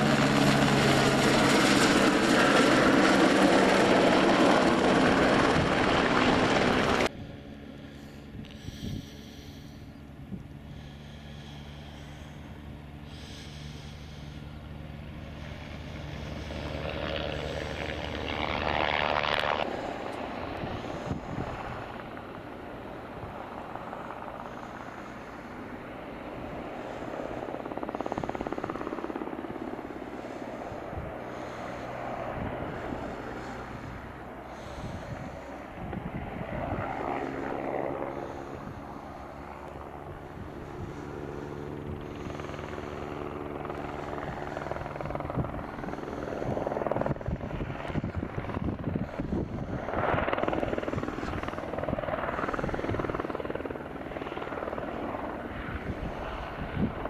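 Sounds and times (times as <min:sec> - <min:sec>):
helicopter rotor beating: 0:00.0 - 0:57.0.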